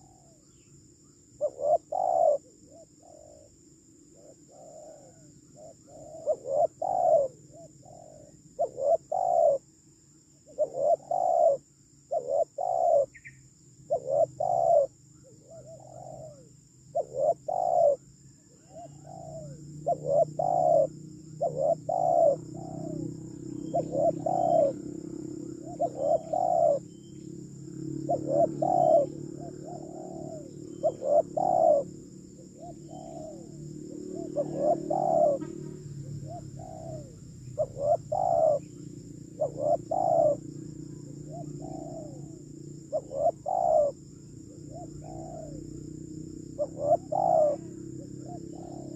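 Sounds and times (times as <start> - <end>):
doves cooing: 0.0 - 0.5, 1.4 - 9.7, 10.4 - 48.9
high insect hum: 0.0 - 48.9.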